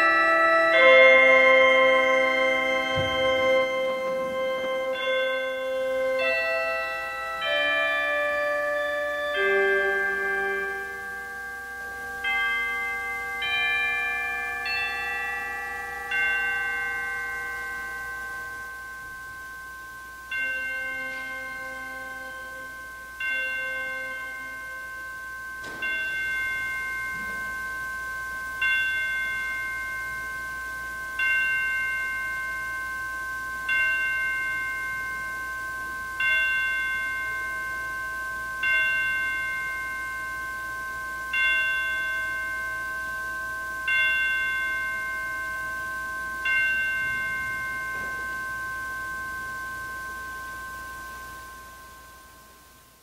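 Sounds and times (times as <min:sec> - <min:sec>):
bell chimes ringing: 0:00.0 - 0:53.0.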